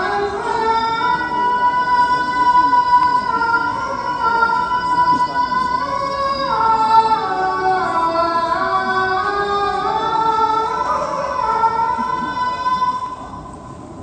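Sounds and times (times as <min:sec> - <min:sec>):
high voice singing slowly: 0:00.0 - 0:13.6.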